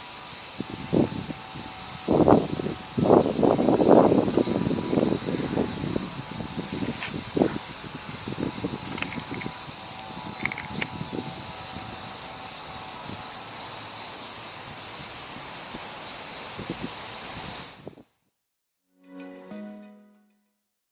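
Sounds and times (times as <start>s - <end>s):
high-pitched insect chorus: 0.0s - 18.2s.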